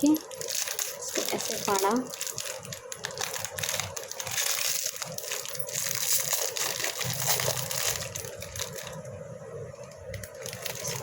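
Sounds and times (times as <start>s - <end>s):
plastic packet crinkling: 0.0s - 9.1s, 9.8s - 11.0s.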